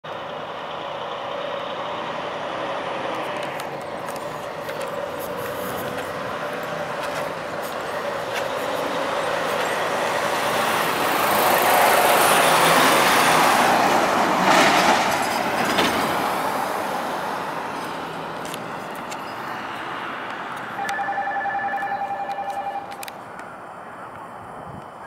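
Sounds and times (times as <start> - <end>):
truck passing by: 0.1 - 25.0.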